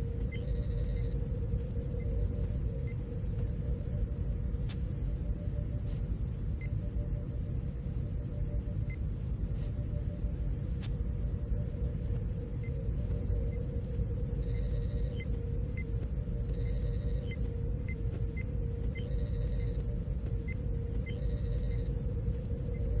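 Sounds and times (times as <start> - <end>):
low rumble with hum: 0.0 - 23.0.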